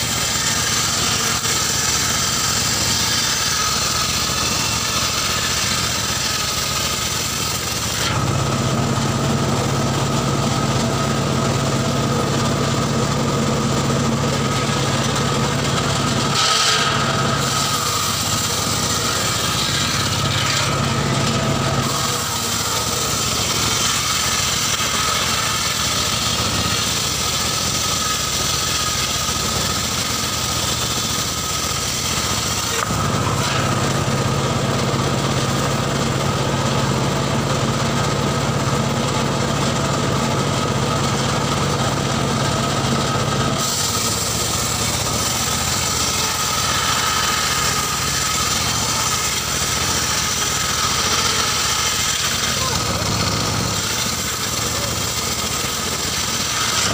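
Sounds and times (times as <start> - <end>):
circular saw whine: 0.0 - 56.9
engine droning: 0.0 - 56.9.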